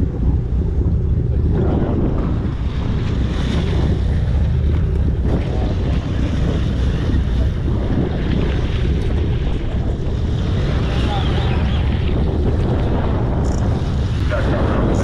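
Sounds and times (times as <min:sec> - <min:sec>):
boat engine rumble: 0:00.0 - 0:15.0
sea: 0:00.0 - 0:15.0
wind buffeting microphone: 0:00.0 - 0:15.0.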